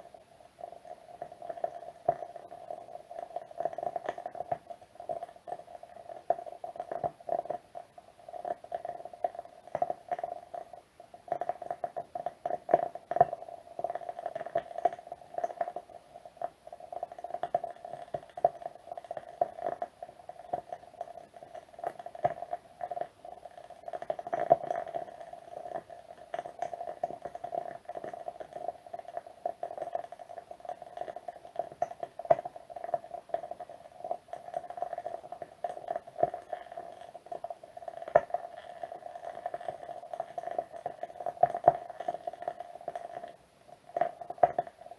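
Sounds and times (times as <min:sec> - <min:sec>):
wood wick candle crackling: 0:00.5 - 0:44.9.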